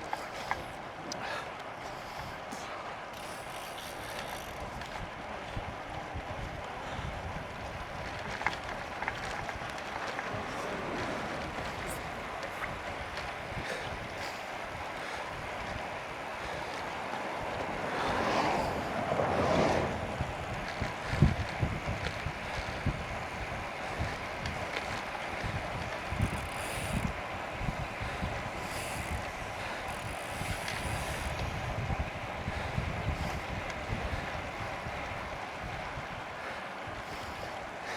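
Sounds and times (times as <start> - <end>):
bicycle tyre noise: 0.0 - 37.9
wind rushing over microphone: 4.6 - 37.6.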